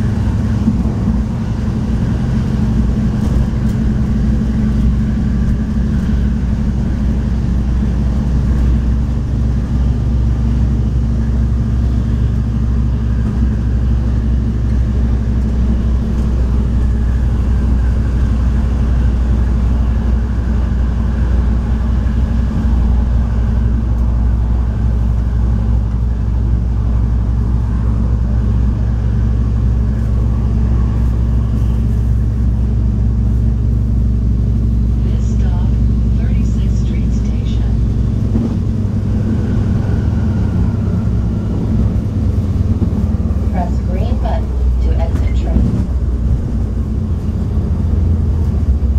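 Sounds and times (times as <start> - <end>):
diesel engine drone: 0.0 - 48.9
wheels rumbling on rails: 0.0 - 48.9.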